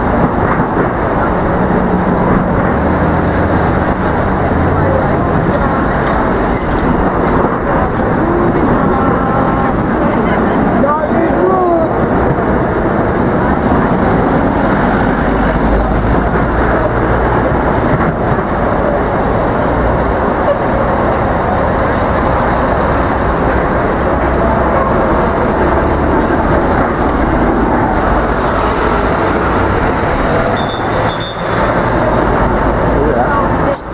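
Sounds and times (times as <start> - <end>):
city street traffic: 0.0 - 33.9.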